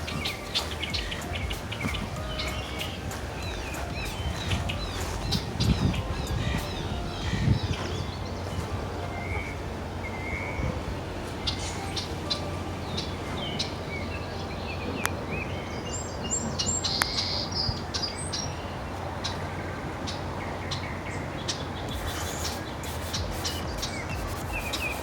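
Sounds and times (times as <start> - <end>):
low background rumble: 0.0 - 25.0
small birds chirping: 0.0 - 25.0.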